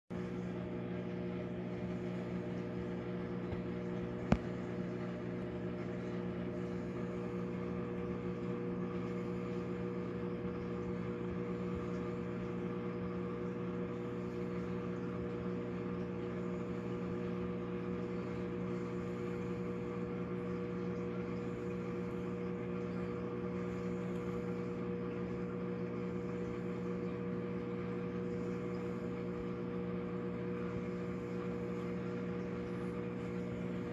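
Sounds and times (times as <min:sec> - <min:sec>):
low machine hum: 0:00.1 - 0:33.9.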